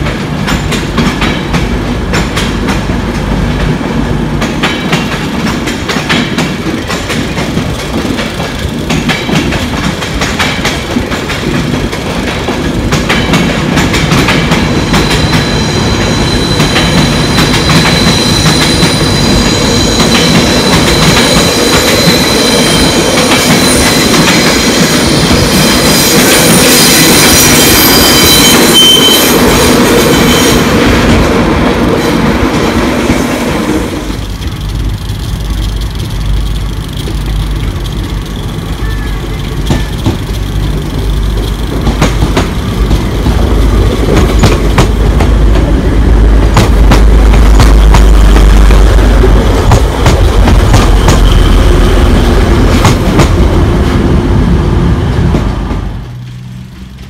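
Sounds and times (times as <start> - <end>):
train rumbling past: 0.0 - 57.0
train whine and squeal: 0.0 - 57.0.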